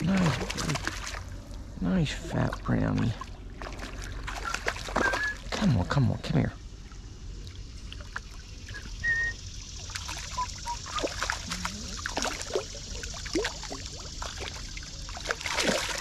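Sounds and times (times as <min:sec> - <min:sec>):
fish splashing at water surface: 0:00.0 - 0:01.6, 0:02.5 - 0:05.6, 0:07.4 - 0:16.0
stream trickling: 0:00.0 - 0:16.0.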